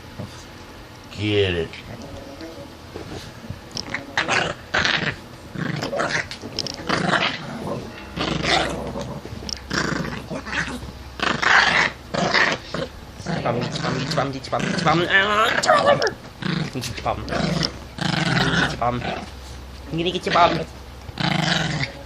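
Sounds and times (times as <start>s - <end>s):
dog growling and snarling: 1.7s - 19.5s, 20.1s - 22.0s.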